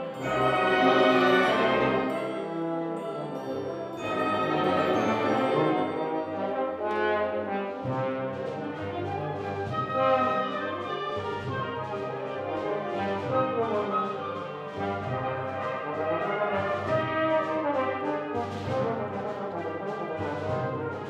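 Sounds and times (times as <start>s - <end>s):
wind band playing: 0.0s - 21.0s.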